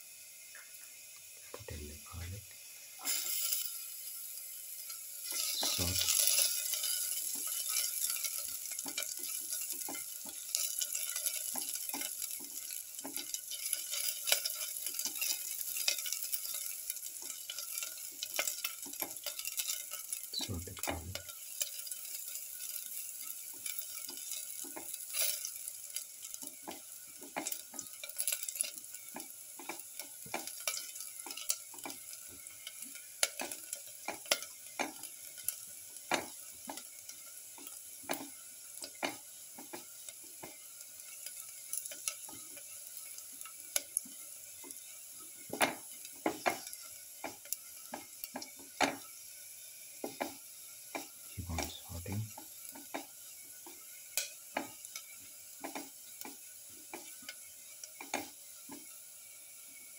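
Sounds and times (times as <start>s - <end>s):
shallots sizzling in oil: 0.0s - 59.9s
spatula scraping and tapping pan: 4.8s - 49.3s, 49.9s - 59.0s.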